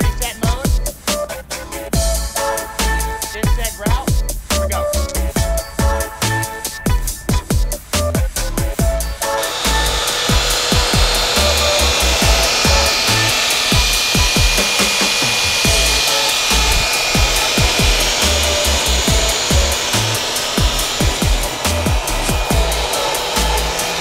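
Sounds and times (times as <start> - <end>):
electronic music with heavy beat: 0.0 - 24.0
mortar mixer whining: 1.9 - 24.0.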